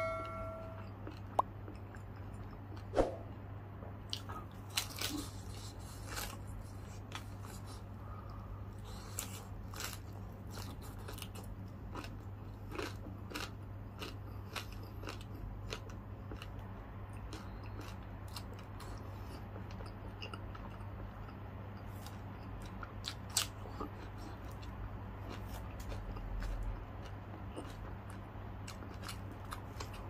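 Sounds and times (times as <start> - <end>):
steady low hum: 0.0 - 30.0
chewing crispy fried food: 0.8 - 2.9, 4.1 - 30.0.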